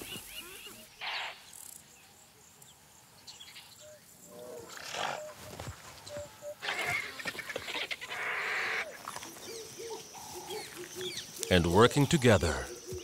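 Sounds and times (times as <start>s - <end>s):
faint wildlife ambience: 0.0s - 13.0s.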